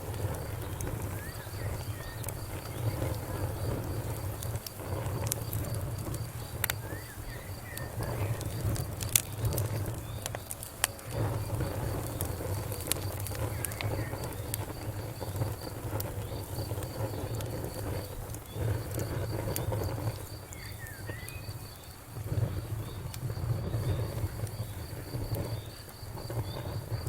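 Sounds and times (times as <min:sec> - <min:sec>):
low rumble of flames: 0:00.0 - 0:27.0
wood fire crackling and popping: 0:00.0 - 0:27.0.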